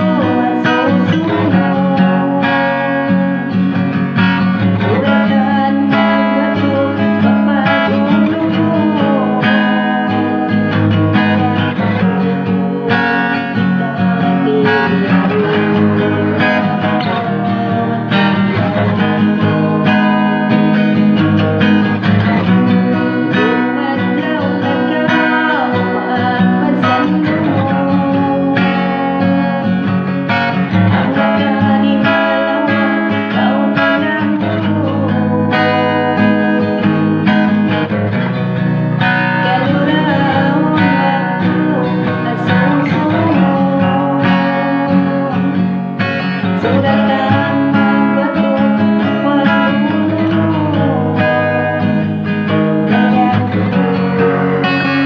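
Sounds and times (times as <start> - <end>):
guitar music: 0.0 - 55.0.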